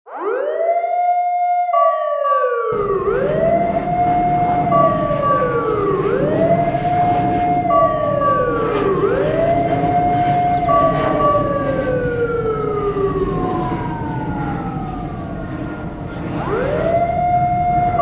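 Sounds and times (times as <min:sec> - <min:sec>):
siren wailing: 0:00.1 - 0:18.0
low rumbling noise: 0:02.8 - 0:18.0.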